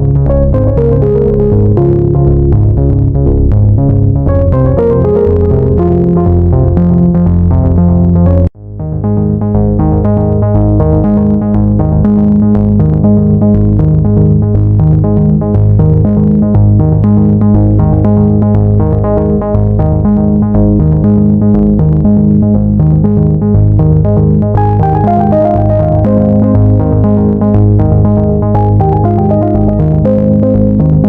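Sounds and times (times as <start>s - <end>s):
synthesizer music with beat: 0.0s - 31.0s.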